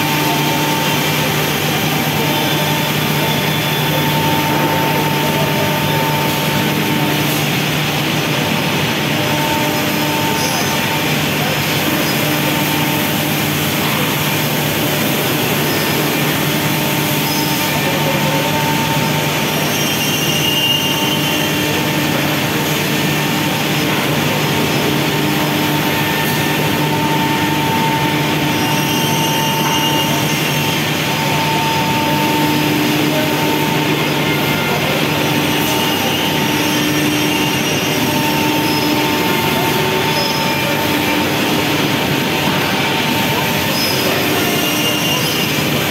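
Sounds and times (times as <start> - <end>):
high machine whine: 0.0 - 45.9
low machine hum: 0.0 - 45.9.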